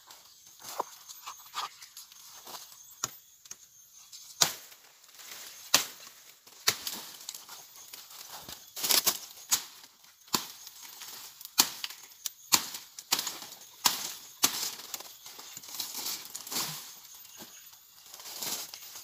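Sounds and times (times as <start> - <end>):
leaves and branches rustling: 0.0 - 3.1, 3.7 - 19.0.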